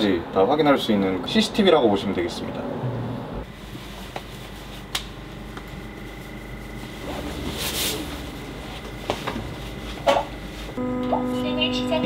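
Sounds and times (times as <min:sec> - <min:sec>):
electric bus hum with whine: 0:00.0 - 0:12.0.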